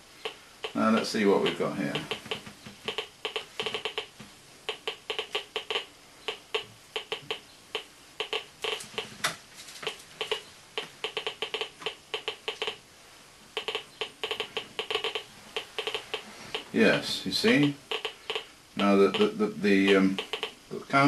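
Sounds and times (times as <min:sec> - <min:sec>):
radiation counter clicking: 0:00.1 - 0:09.2, 0:09.8 - 0:12.8, 0:13.6 - 0:20.8.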